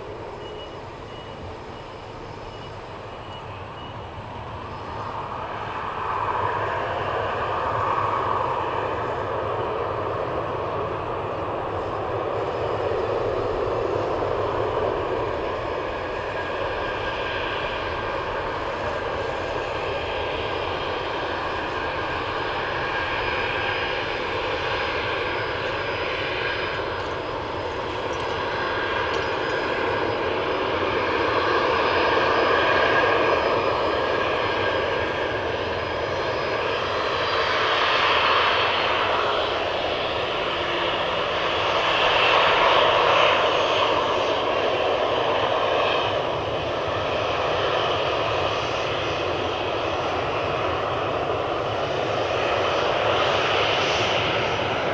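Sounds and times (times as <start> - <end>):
engine drone: 0.0 - 54.9.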